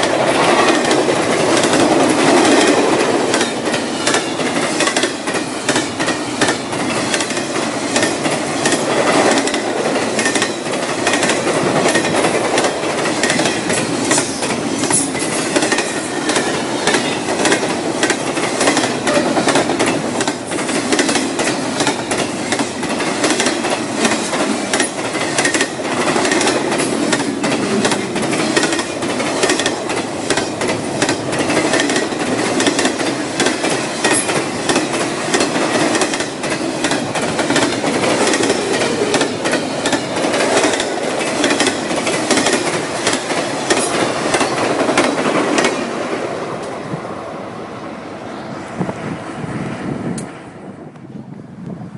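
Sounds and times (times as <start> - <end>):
train wheel clicks and clacks: 0.0 - 46.8
freight train rumbling past: 0.0 - 51.9.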